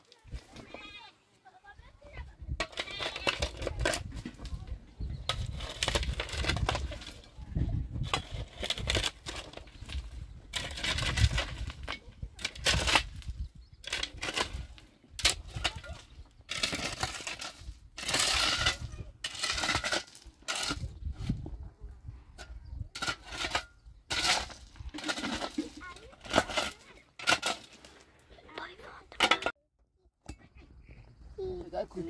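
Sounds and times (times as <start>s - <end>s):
crunching and rustling of handled objects: 2.5s - 29.5s.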